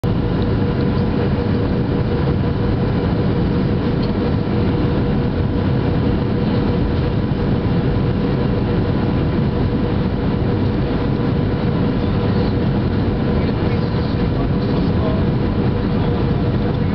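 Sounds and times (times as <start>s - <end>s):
airliner engines and rushing air: 0.0s - 16.9s
constant hum: 0.0s - 16.9s.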